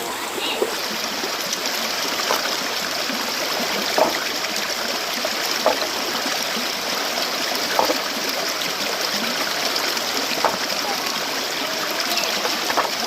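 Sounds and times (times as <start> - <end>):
stream water rushing: 0.0 - 13.0
water splashes and gurgles: 0.0 - 13.0.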